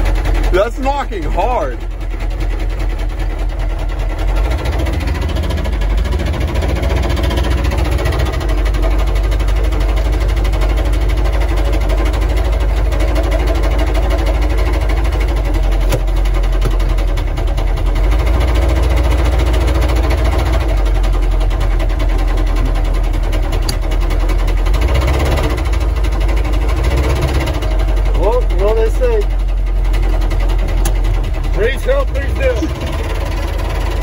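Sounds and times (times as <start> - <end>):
diesel engine knocking: 0.0 - 34.0.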